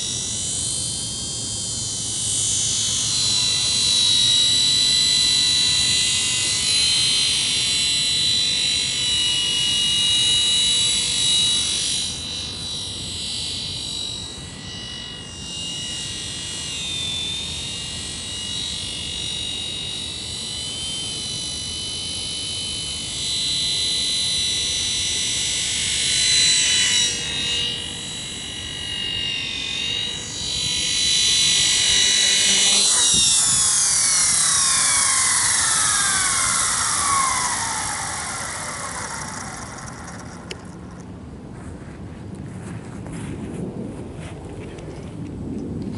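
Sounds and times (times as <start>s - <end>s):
rc helicopter rotor whine: 0.0s - 43.4s.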